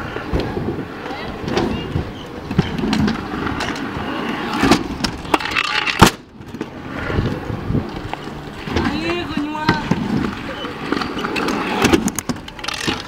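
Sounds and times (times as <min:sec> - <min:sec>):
scooter wheels rolling on concrete: 0:00.0 - 0:13.0.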